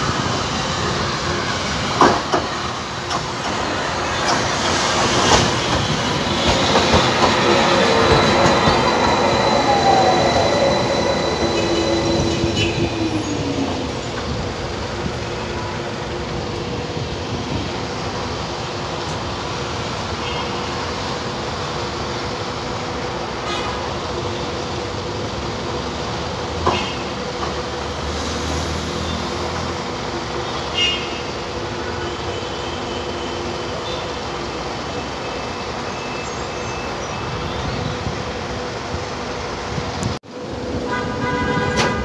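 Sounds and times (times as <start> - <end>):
electric tram humming: 0.0 - 42.0
street noise: 0.0 - 42.0.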